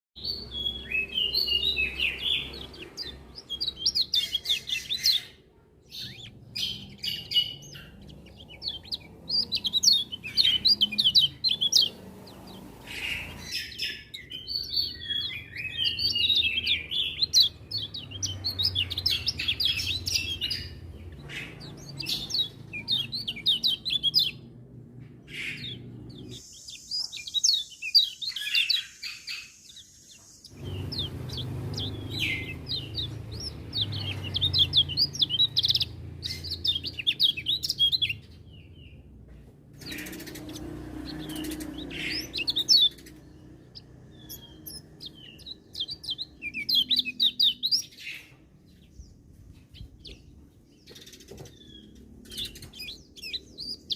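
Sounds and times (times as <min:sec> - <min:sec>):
songbird twittering: 0:00.2 - 0:24.5, 0:25.2 - 0:39.0, 0:39.8 - 0:53.9
other birds chirping: 0:00.2 - 0:53.9.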